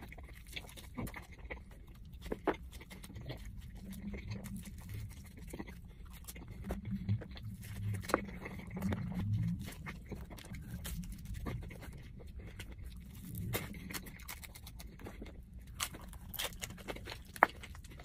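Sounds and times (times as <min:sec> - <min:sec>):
low steady hum: 0:00.0 - 0:18.0
mouth chewing and smacking: 0:00.0 - 0:18.0.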